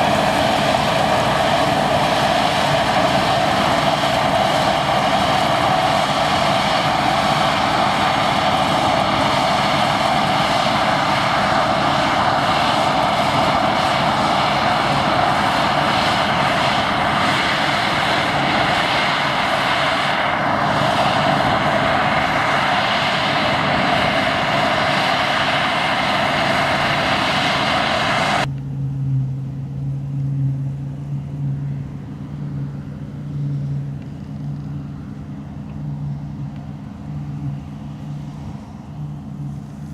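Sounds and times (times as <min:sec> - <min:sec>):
combine harvester machinery drone: 0:00.0 - 0:39.9
low engine hum: 0:00.0 - 0:39.9.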